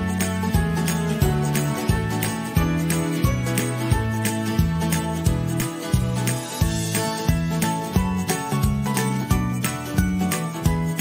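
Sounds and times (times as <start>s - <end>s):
background music with bass: 0.0s - 11.0s
jingling bell percussion: 0.0s - 11.0s.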